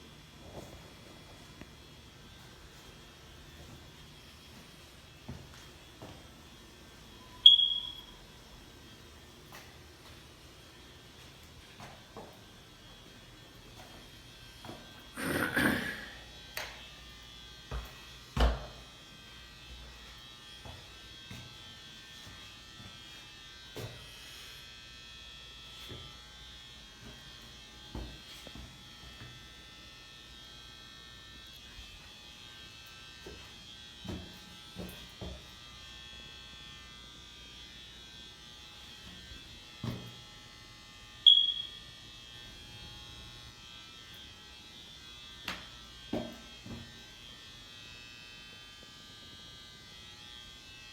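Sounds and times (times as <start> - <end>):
faint electrical hum: 0.0 - 50.9.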